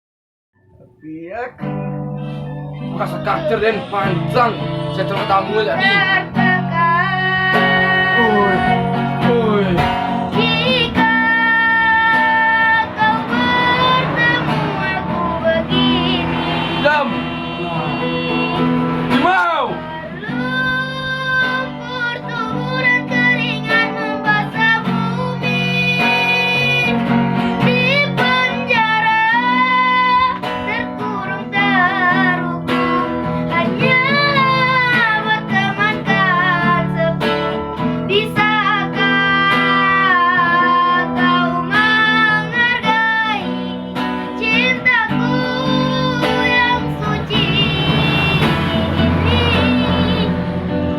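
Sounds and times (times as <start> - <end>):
guitar: 0.6 - 50.9
girl singing with vibrato: 1.6 - 50.9.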